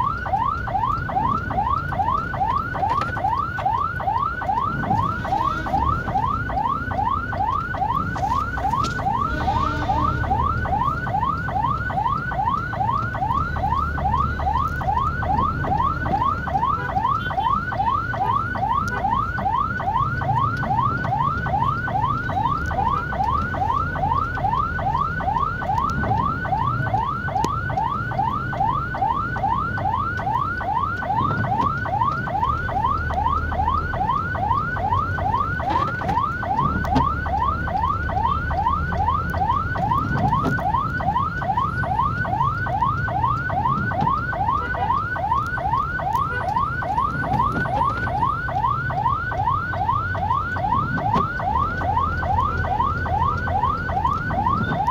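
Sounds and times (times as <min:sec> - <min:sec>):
ambulance siren yelping: 0:00.0 - 0:54.9
engine and traffic rumble: 0:00.0 - 0:54.9.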